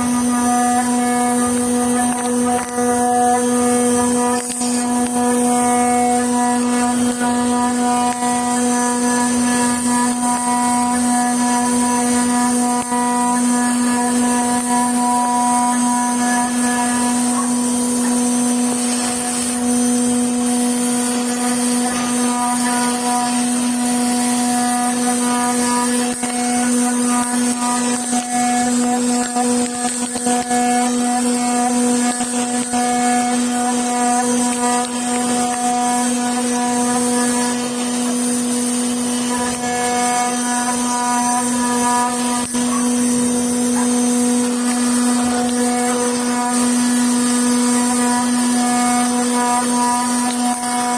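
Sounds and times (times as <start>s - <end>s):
machine electric hum: 0.0s - 50.9s.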